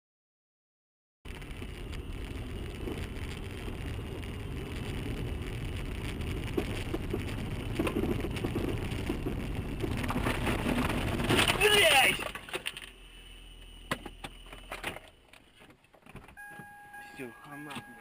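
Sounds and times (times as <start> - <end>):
car engine and tyres rumbling: 1.3 - 18.0.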